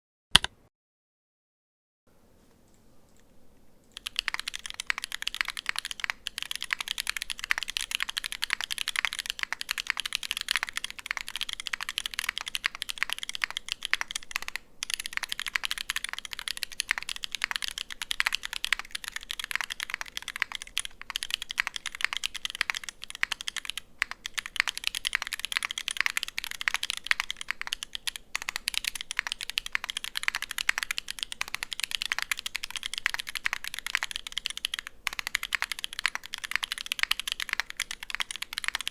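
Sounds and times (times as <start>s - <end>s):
fast typing on mechanical keyboard: 3.9s - 38.9s.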